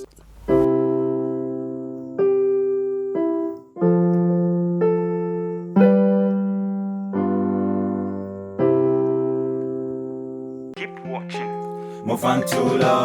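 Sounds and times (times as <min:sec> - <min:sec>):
electric piano chords: 0:00.0 - 0:13.0.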